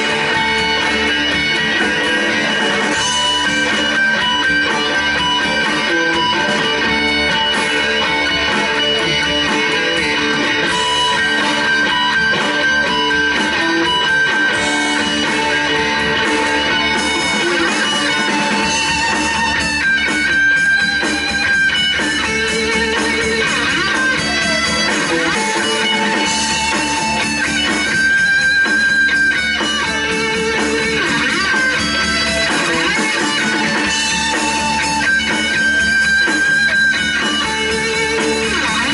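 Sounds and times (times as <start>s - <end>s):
electric guitar holding long notes: 0.0s - 38.9s
live instrumental rock band: 0.0s - 38.9s.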